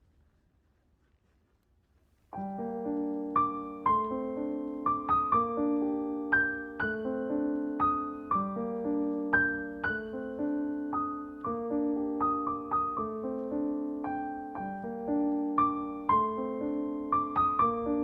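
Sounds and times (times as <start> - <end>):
gentle piano music: 2.3 - 18.0.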